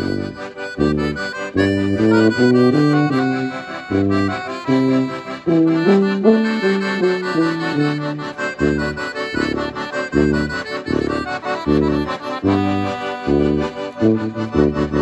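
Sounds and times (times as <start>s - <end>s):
accordions playing: 0.0s - 15.0s
tuba bass: 0.0s - 15.0s.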